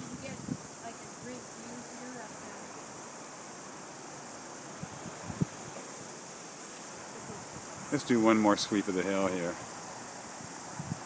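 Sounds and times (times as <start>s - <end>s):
insects chirping: 0.0s - 11.0s
soft background hiss: 0.0s - 11.0s.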